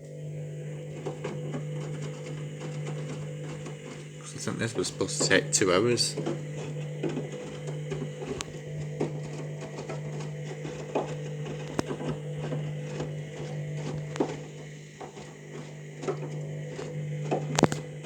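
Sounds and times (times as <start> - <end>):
washing machine drum humming: 0.0 - 18.0.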